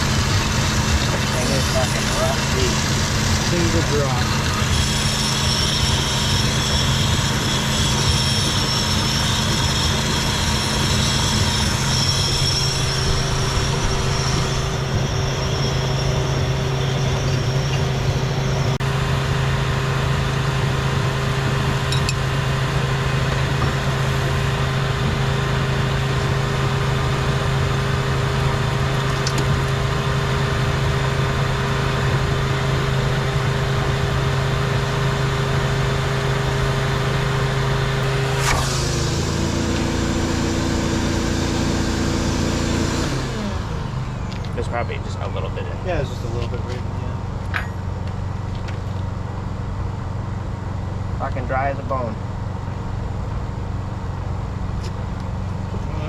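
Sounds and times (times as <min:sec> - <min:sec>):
shop vacuum running: 0:00.0 - 0:47.9.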